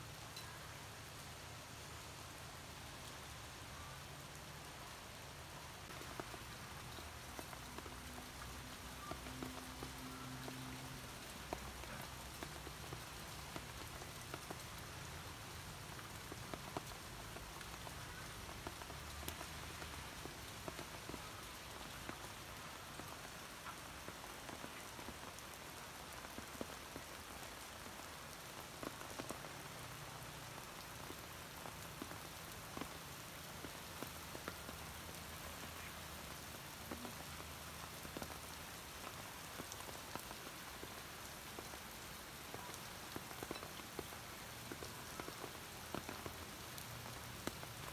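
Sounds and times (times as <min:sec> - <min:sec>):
heavy rain on pavement and vehicles: 0:00.0 - 0:47.9.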